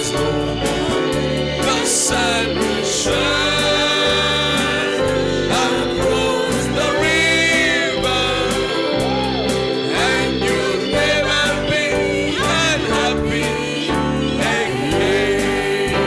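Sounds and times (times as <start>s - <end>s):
band with steady beat: 0.0s - 16.0s
voices singing gospel song: 0.0s - 16.0s.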